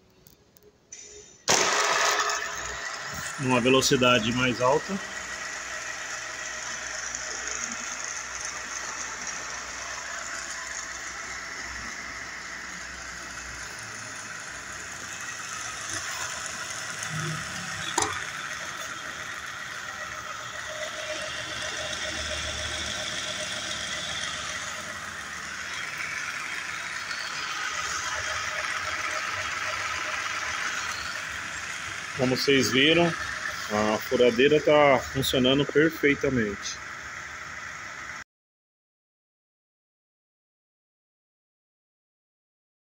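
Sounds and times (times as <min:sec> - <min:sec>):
drill press motor hum: 0:01.0 - 0:38.2.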